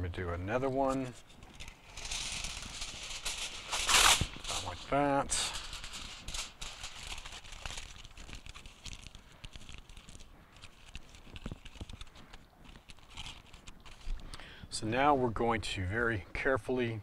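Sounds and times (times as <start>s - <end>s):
aluminum foil crinkling: 0.5s - 14.2s.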